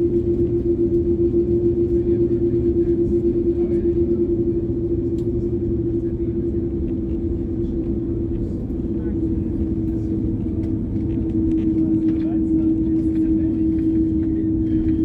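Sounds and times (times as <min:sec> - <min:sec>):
airliner engines idling hum: 0:00.0 - 0:15.0
low rumble: 0:00.0 - 0:15.0.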